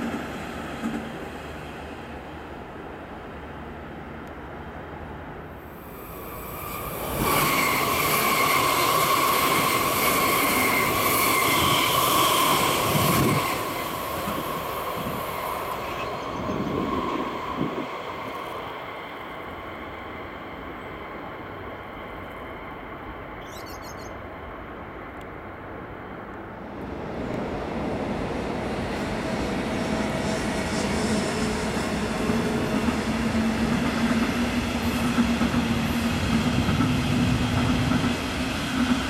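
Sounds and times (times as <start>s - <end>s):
train running past: 0.0s - 39.0s.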